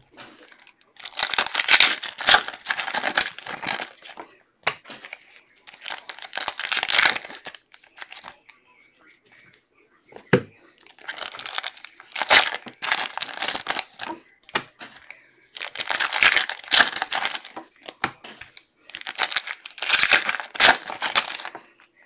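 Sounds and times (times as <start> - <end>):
foil wrappers tearing and crinkling: 0.2 - 4.2, 5.0 - 8.3, 10.8 - 21.8.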